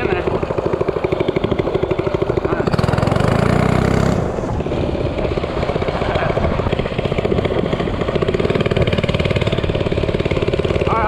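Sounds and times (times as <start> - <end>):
small engine pulsing: 0.0 - 11.0.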